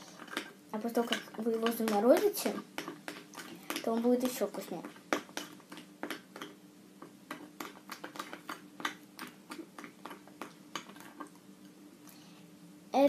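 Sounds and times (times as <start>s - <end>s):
spoon stirring thick mixture: 0.0s - 11.9s
faint steady hum: 0.0s - 13.0s.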